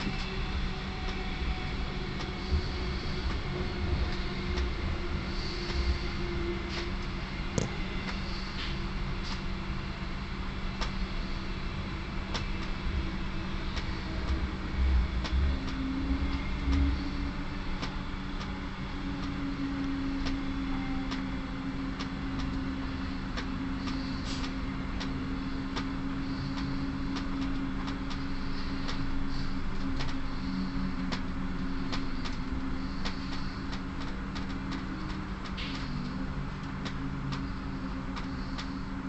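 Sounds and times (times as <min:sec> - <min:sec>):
train rolling rumble: 0:00.0 - 0:39.0.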